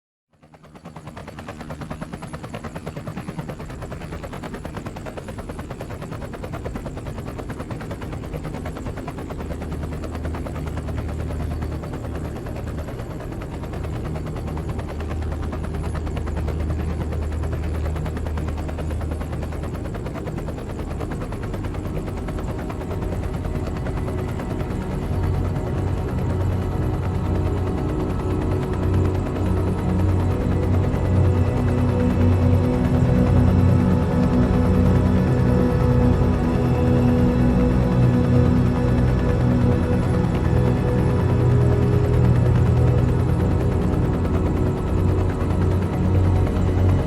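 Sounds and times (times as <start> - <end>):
helicopter rotor chopping: 0.4 - 47.0.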